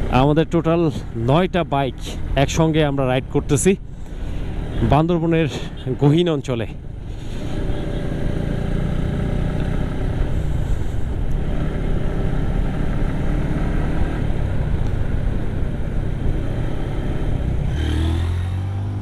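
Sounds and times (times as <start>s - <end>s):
rushing road noise: 0.0s - 19.0s.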